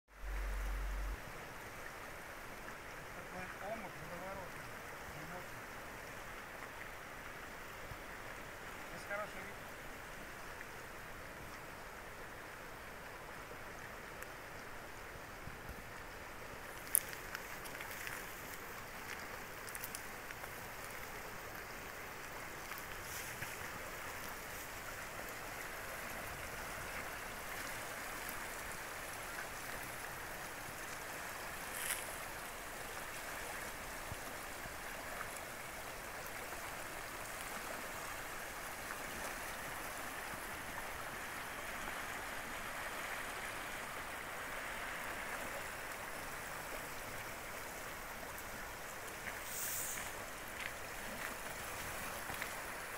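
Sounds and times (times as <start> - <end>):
creek water rushing over rocks: 0.1 - 52.9.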